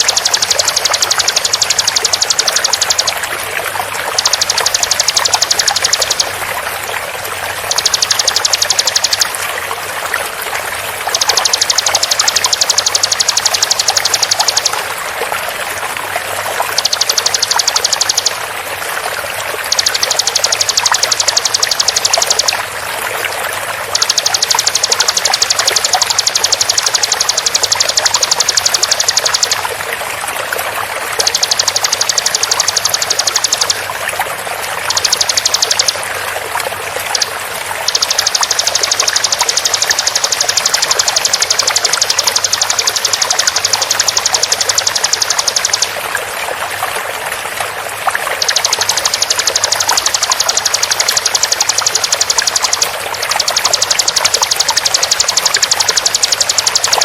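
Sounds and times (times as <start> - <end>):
bird rapid high repeated call: 0.0 - 9.7, 10.3 - 18.6, 19.6 - 29.8, 30.8 - 34.0, 34.6 - 36.2, 37.0 - 46.1, 48.2 - 57.0
flowing water: 0.0 - 57.0.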